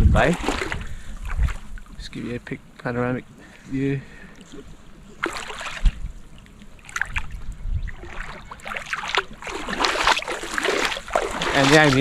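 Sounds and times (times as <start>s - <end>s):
legs wading through shallow water: 0.2s - 12.0s.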